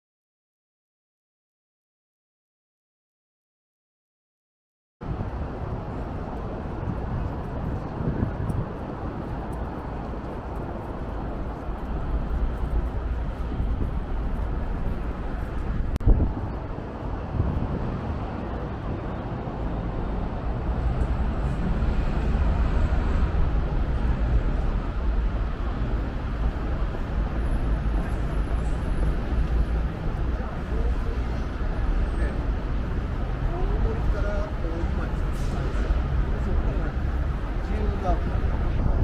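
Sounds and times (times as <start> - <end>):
road traffic rumble: 5.0 - 39.0.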